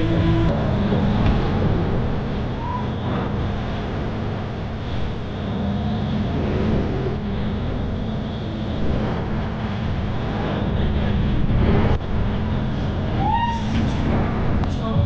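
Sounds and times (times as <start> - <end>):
low mechanical hum: 0.0 - 15.0
rushing noise: 0.0 - 15.0.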